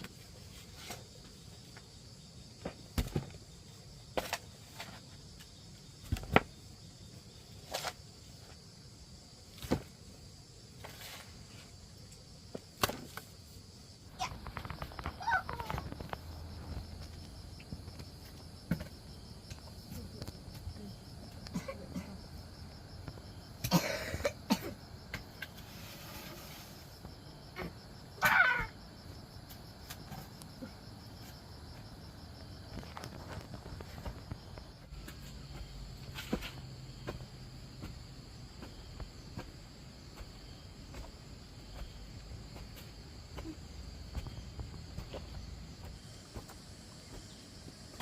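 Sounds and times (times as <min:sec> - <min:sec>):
crickets chirping: 0:00.0 - 0:48.0.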